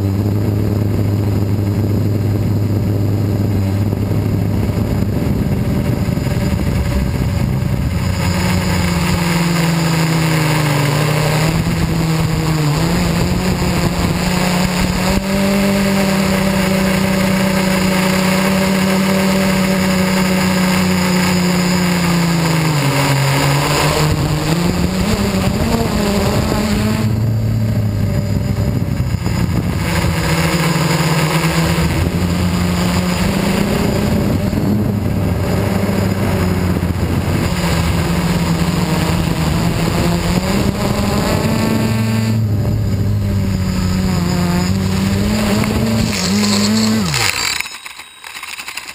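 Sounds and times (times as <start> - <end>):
drone motors and propellers buzzing: 0.0 - 48.9.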